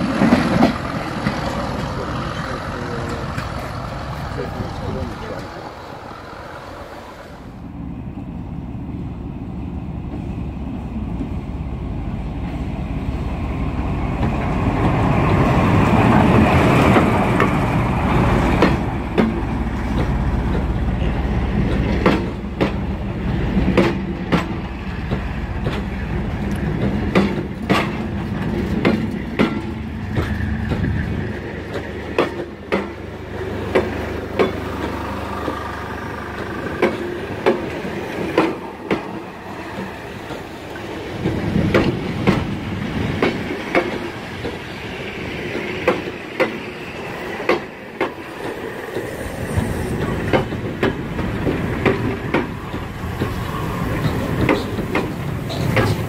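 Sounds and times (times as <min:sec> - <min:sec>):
wheels clacking over rail joints: 0:00.0 - 0:07.5, 0:13.6 - 0:56.0
passenger train passing: 0:00.0 - 0:56.0.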